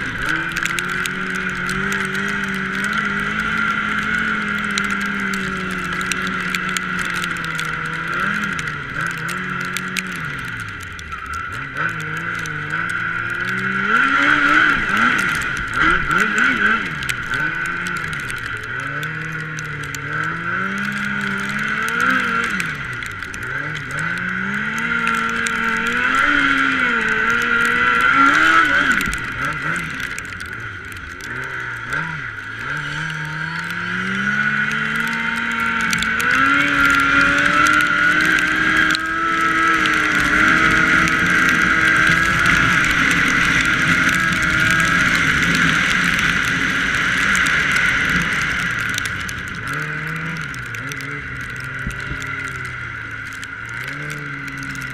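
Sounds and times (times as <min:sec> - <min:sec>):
snowmobile engine revving: 0:00.0 - 0:54.9.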